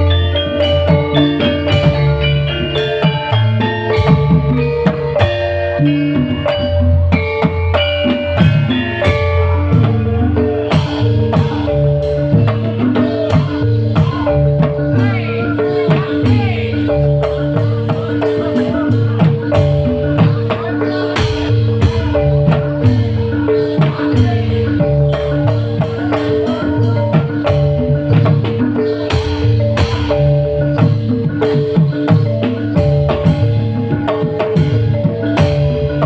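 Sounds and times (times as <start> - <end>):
bass line: 0.0 - 36.0
live band music: 0.0 - 36.0
struck melodic notes: 0.0 - 36.0.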